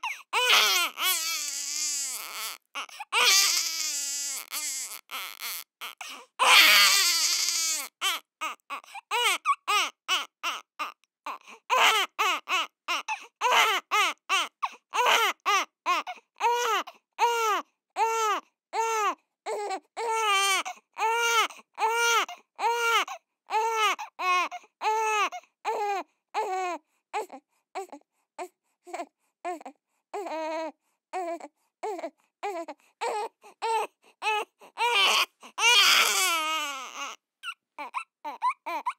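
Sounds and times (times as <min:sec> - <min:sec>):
baby crying: 0:00.0 - 0:28.0, 0:28.9 - 0:38.9.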